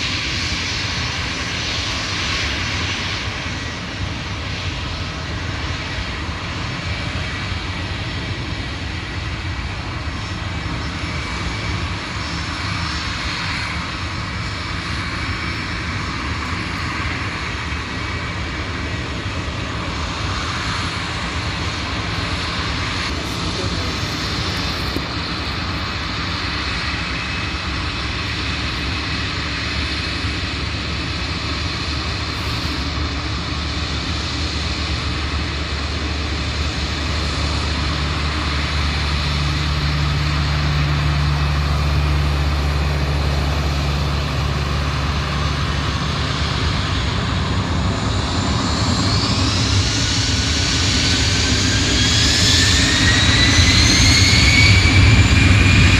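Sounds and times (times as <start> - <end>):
airliner turbine engines: 0.0 - 55.9.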